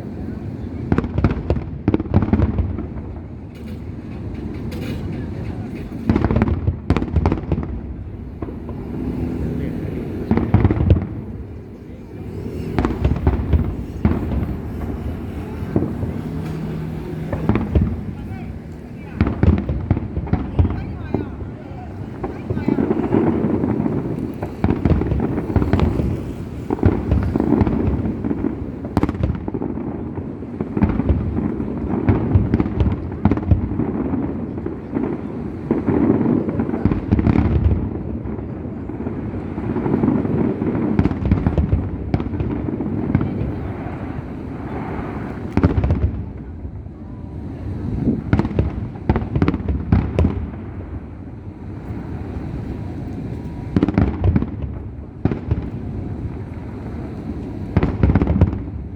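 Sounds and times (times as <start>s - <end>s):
fireworks bangs and cracks: 0.0s - 58.9s.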